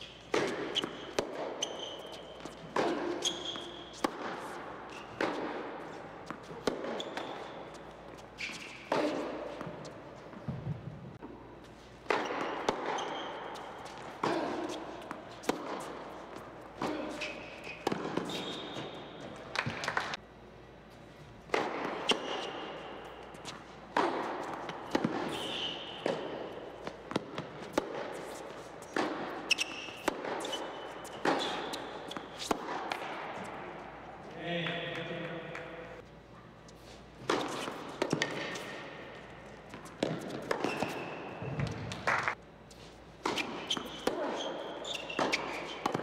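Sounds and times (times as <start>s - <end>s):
racket striking tennis ball: 0.0s - 20.2s, 21.4s - 33.8s, 37.2s - 46.0s
tennis ball bouncing: 0.0s - 20.2s, 21.4s - 33.8s, 36.8s - 42.4s, 43.2s - 46.0s
shoes squeaking on court: 0.0s - 33.9s, 36.1s - 46.0s.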